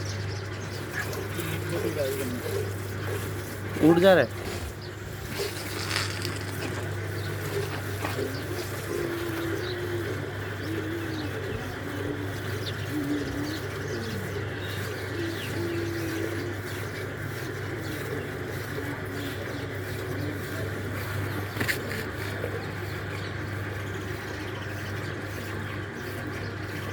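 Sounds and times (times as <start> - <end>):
doves cooing: 0.0 - 26.9
steady low hum: 0.0 - 26.9.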